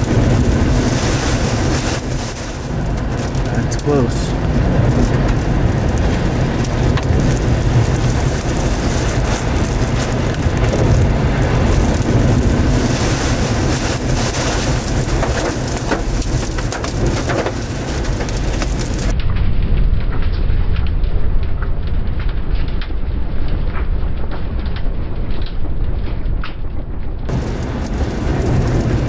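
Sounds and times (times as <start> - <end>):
raindrops pattering: 0.0 - 29.0
strong wind rushing: 0.0 - 29.0.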